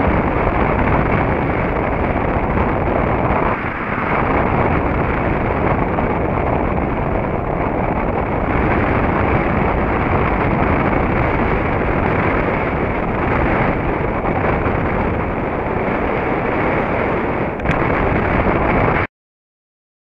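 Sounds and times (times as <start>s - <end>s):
wind buffeting microphone: 0.0s - 19.1s.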